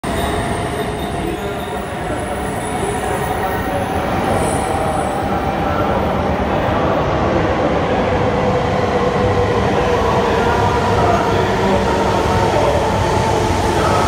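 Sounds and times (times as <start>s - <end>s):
train rail noise: 0.0s - 14.0s.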